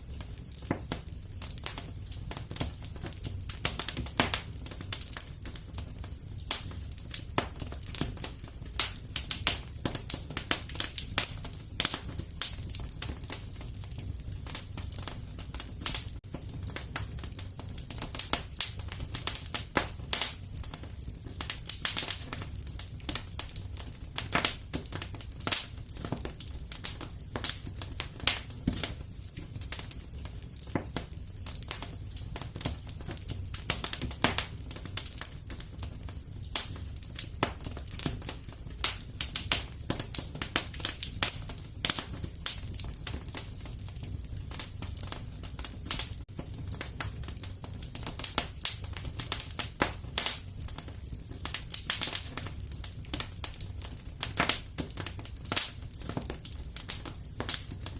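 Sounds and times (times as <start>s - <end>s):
fire crackling and popping: 0.0s - 57.9s
low fire rumble: 0.0s - 57.9s.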